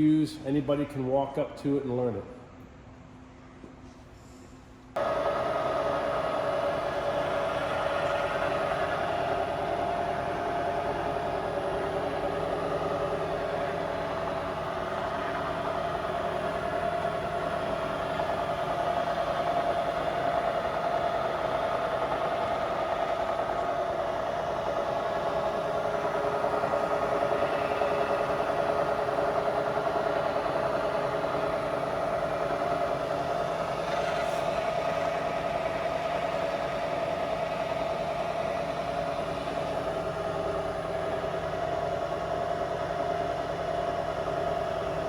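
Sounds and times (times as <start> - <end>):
milling machine hum and whine: 4.7 - 45.0.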